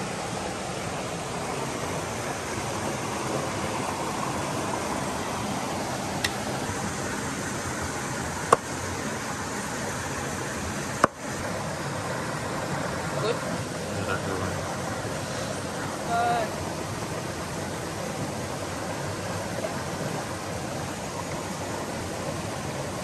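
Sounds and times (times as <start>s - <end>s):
fast-flowing river rushing: 0.0s - 23.0s.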